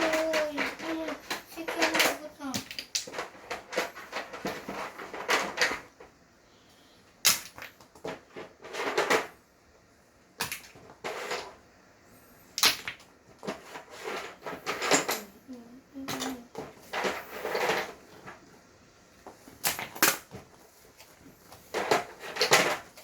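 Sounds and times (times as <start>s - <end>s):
plastic toys clattering: 0.0s - 6.2s, 7.2s - 9.4s, 10.4s - 11.7s, 12.4s - 23.0s.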